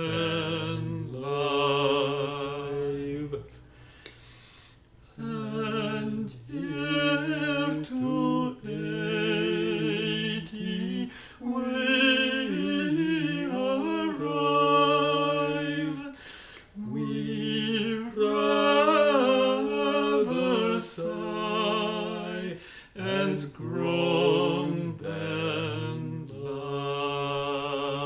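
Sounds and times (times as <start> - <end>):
voices singing a hymn in parts: 0.0 - 3.6, 5.1 - 28.0.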